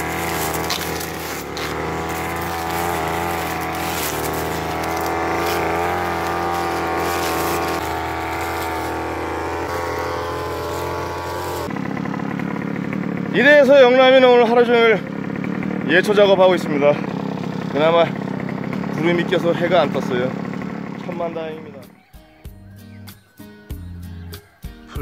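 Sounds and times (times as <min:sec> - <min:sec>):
brush cutter engine running: 0:00.0 - 0:22.4.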